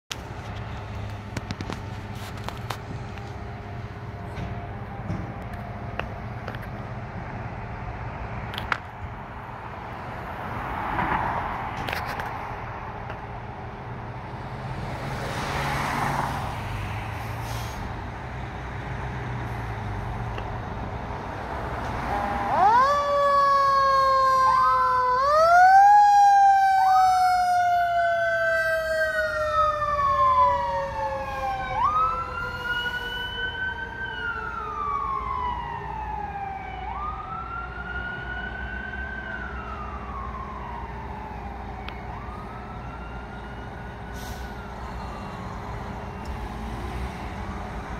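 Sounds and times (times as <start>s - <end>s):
sirens wailing: 0.4s - 12.3s, 18.3s - 47.9s.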